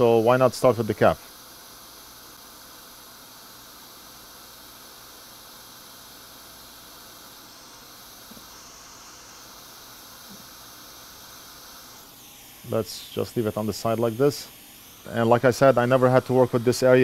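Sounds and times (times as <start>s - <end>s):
hot air station hissing: 0.0s - 17.0s.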